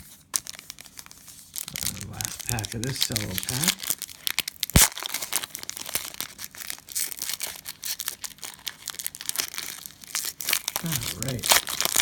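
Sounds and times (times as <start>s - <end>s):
cellophane crinkling and tearing: 0.0s - 12.0s.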